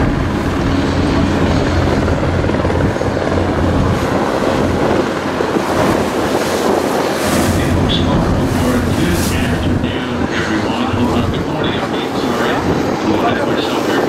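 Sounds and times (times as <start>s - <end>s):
boat engine drone: 0.0s - 14.0s
wind and water rushing: 0.0s - 14.0s.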